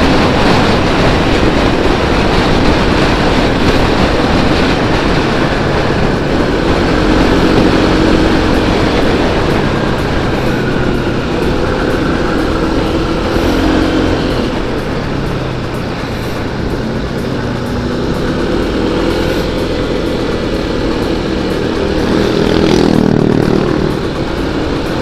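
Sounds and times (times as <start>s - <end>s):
motorcycle engine running: 0.0s - 25.0s
wind noise on camera: 0.0s - 25.0s.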